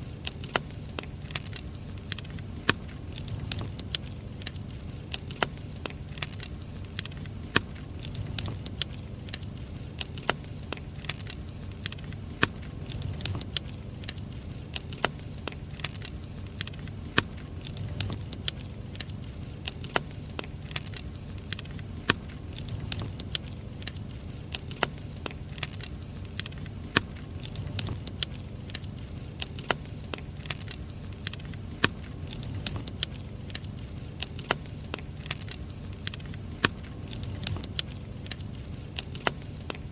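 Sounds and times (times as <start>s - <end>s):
fire crackling and popping: 0.0s - 39.9s
low rumble of fire: 0.0s - 39.9s.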